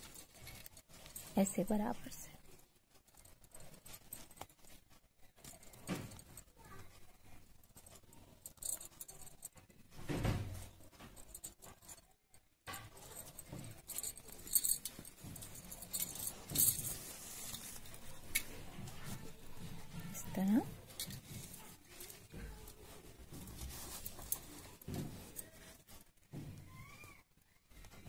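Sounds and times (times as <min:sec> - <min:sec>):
cloth rustling and crackling: 0:00.0 - 0:28.0.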